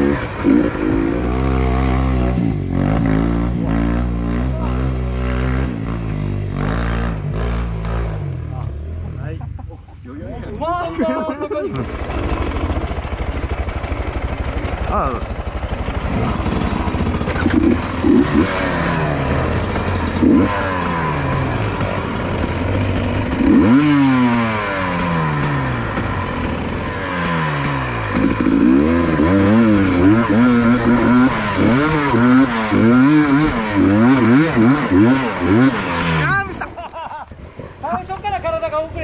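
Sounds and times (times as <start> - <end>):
motorcycle engine revving: 0.0 - 9.4, 11.7 - 37.8.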